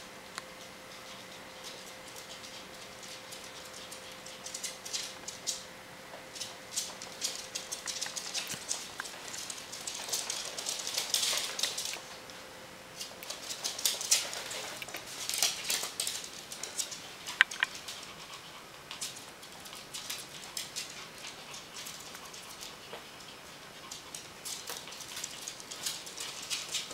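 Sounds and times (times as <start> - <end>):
animal claws clicking on hardwood floor: 0.4 - 5.7, 6.3 - 12.2, 13.0 - 26.9.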